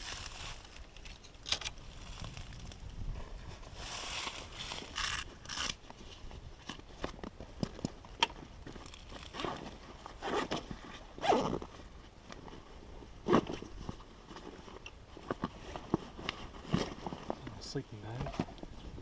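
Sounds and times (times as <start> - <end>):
camping bags rustling and knocking: 0.0 - 19.0.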